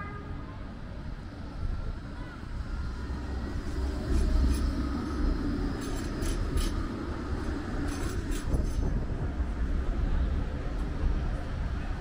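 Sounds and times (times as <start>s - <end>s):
tram rumbling on rails: 0.0s - 12.0s
wind buffeting microphone: 1.3s - 12.0s.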